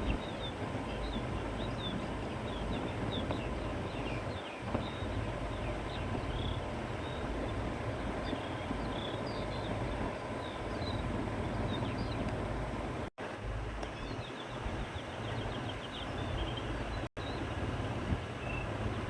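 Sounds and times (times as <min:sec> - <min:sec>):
small birds chirping: 0:00.0 - 0:12.6, 0:13.8 - 0:17.5, 0:18.2 - 0:19.0
wind blowing with low rumble: 0:00.0 - 0:19.0.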